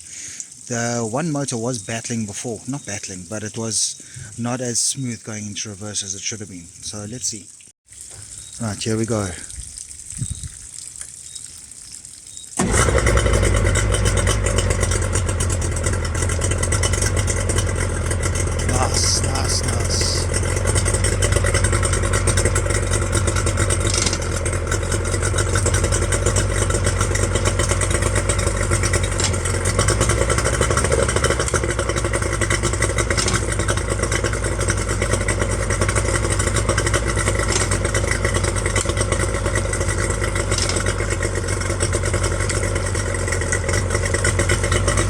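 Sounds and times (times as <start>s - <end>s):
outboard motor idling: 0.0s - 4.7s, 12.5s - 45.0s.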